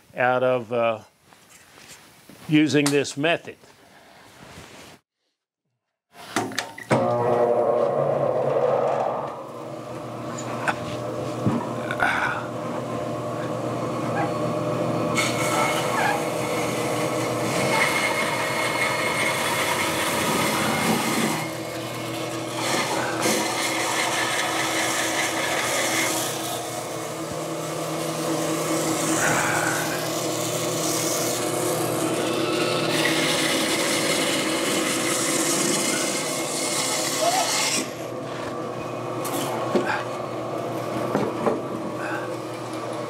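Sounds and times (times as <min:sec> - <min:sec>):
bandsaw motor hum: 0:06.9 - 0:43.0
bandsaw cutting wood: 0:07.0 - 0:38.5, 0:39.2 - 0:43.0.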